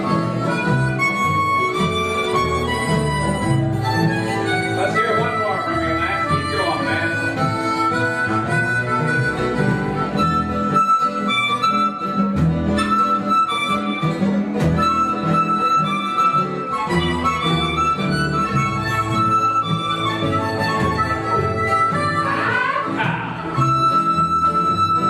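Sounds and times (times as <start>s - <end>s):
acoustic guitar: 0.0s - 25.0s
blues harmonica solo: 0.0s - 25.0s
upright bass: 0.0s - 25.0s.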